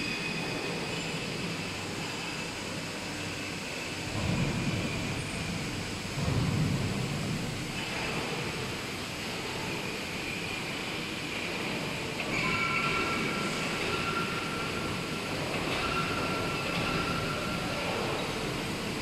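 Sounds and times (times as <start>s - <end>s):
machine running noise: 0.0s - 19.0s.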